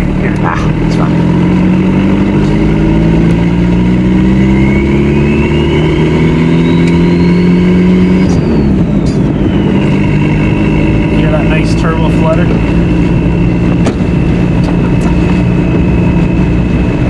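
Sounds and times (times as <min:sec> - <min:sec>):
diesel engine under load: 0:00.0 - 0:17.0
turbo whine: 0:00.0 - 0:17.0.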